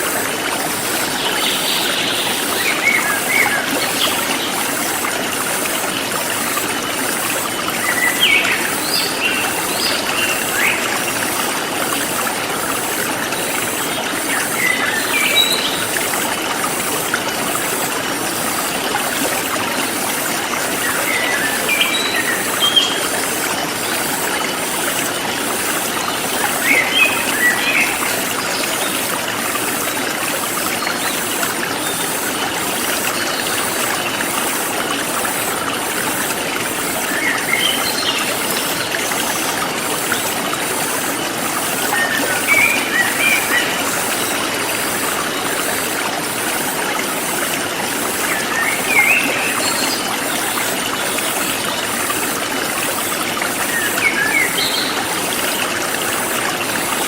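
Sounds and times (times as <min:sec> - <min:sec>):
forest stream flowing: 0:00.0 - 0:57.0.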